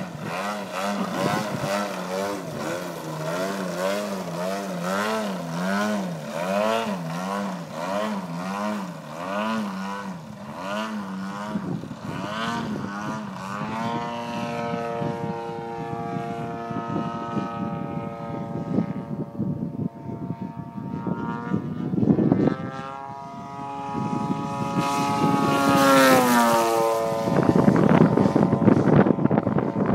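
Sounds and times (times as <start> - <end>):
model airplane engine: 0.0 - 29.9.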